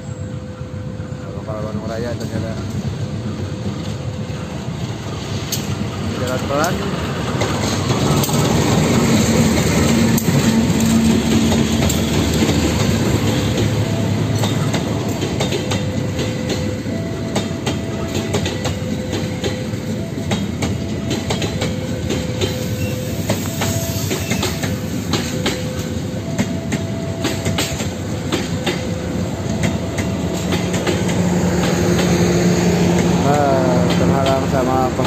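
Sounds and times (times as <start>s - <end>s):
diesel locomotive engine: 0.0s - 35.0s
wheels clicking over rail joints: 4.8s - 35.0s.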